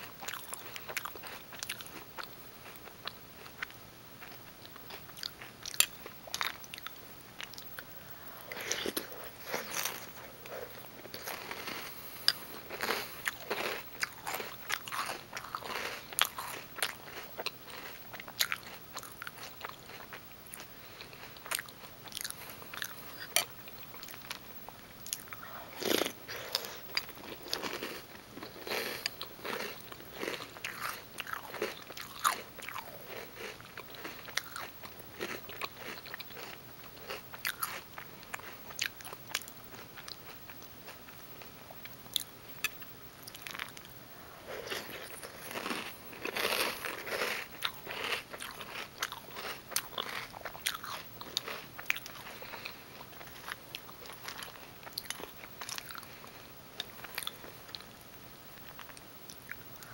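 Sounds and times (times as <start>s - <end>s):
person chewing crunchy cereal: 0.0s - 41.0s, 41.8s - 59.9s.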